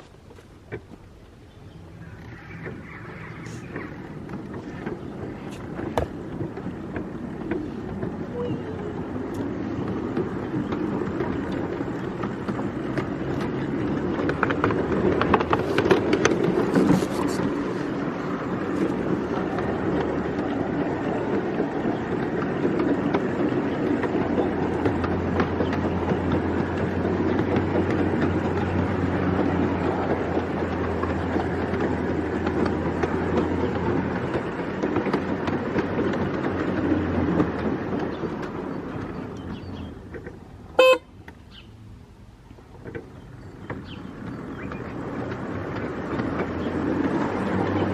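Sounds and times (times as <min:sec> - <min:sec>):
train wheels rumbling and rattling: 0:00.0 - 0:47.9.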